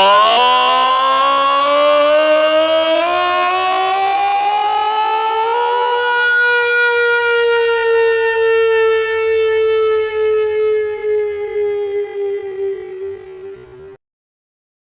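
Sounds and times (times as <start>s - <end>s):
siren wail: 0.0s - 14.0s.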